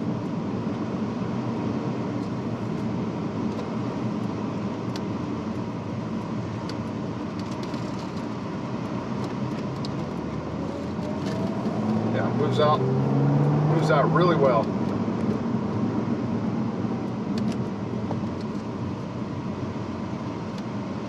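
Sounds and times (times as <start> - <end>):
car engine running: 0.0 - 21.0
road noise: 0.0 - 21.0.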